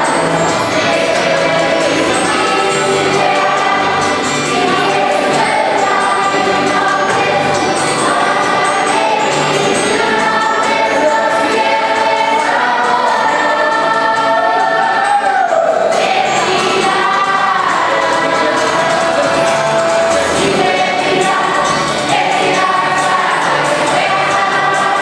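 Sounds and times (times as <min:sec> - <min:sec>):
choir singing: 0:00.0 - 0:25.0.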